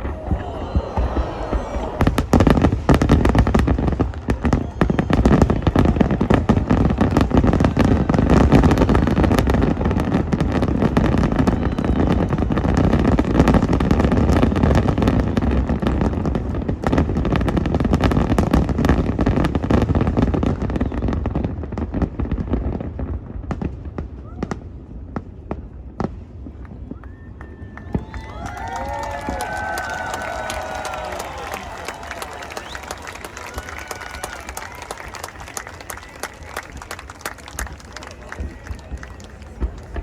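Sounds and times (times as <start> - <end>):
fireworks booming and crackling: 0.0 - 40.0.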